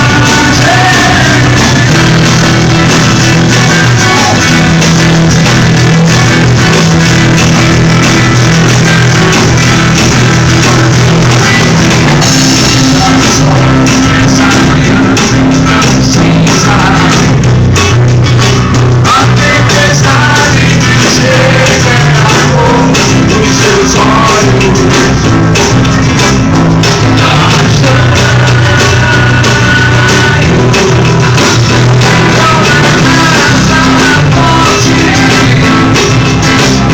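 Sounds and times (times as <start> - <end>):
drum kit beat: 0.0 - 36.9
loud band music: 0.0 - 36.9.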